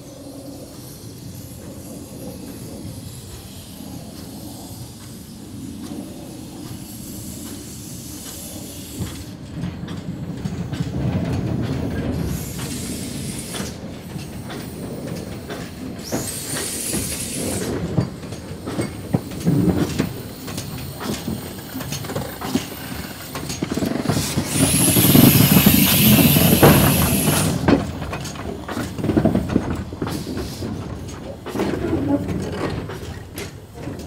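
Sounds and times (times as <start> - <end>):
steam hissing: 0.0 - 34.0
train wheels clanking over rails: 0.5 - 34.0.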